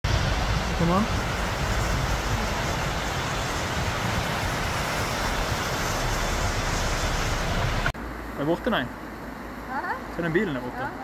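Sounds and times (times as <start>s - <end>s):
floodwater roaring: 0.0s - 11.0s.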